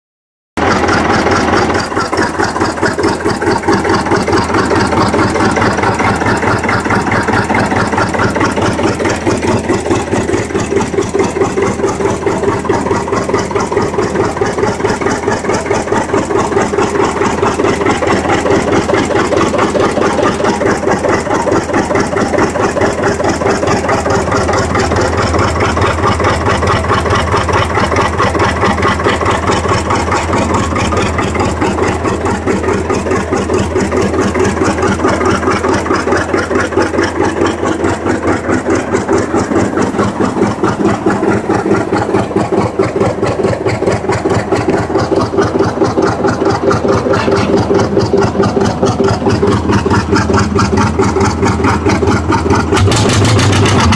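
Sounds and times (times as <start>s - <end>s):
tractor diesel engine running: 0.6s - 53.9s.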